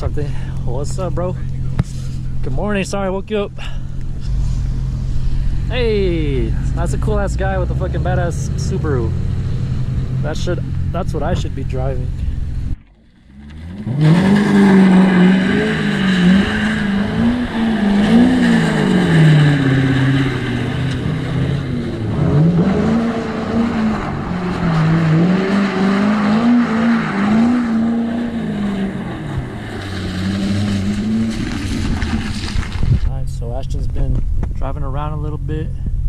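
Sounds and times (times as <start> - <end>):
sports car engine revving: 0.8 - 32.8.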